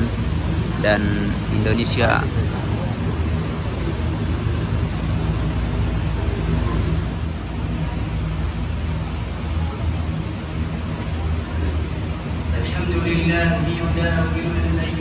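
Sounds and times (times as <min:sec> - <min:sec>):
fans humming: 0:00.0 - 0:15.0.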